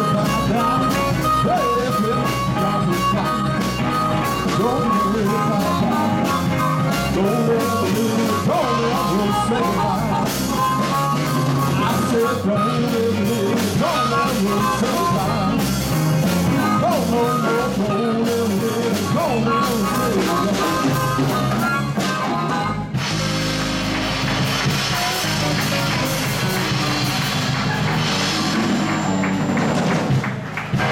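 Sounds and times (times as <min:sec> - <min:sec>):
blues band playing: 0:00.0 - 0:30.9
harmonica bending notes: 0:00.0 - 0:30.9.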